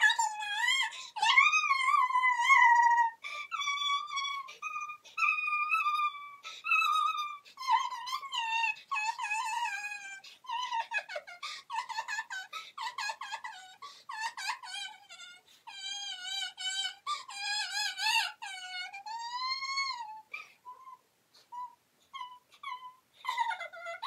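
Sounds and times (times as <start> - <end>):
dog whining and whimpering: 0.0 - 24.0.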